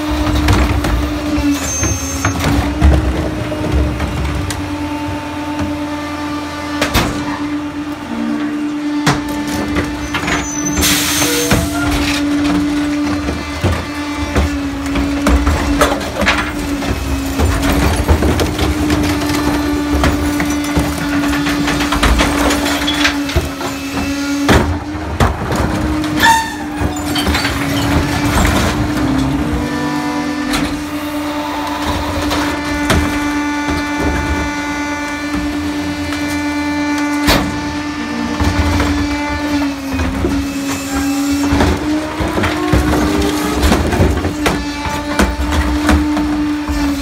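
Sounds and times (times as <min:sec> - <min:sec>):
carts knocking and banging: 0:00.0 - 0:06.0, 0:06.7 - 0:47.0
garbage truck engine hum: 0:00.0 - 0:47.0
hydraulic whine: 0:00.0 - 0:47.0.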